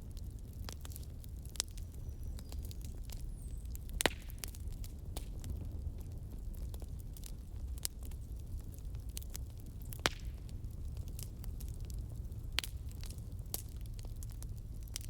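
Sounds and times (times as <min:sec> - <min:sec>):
wood fire crackling: 0:00.0 - 0:15.0
sharp pops from fire: 0:00.2 - 0:15.0.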